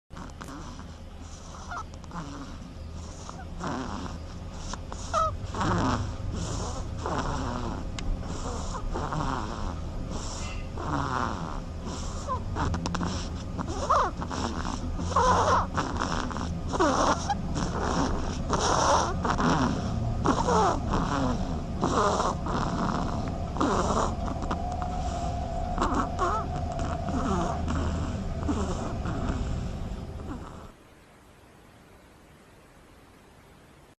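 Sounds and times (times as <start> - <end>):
duckling snoring: 0.1 - 30.8
steady low hum: 0.1 - 34.0.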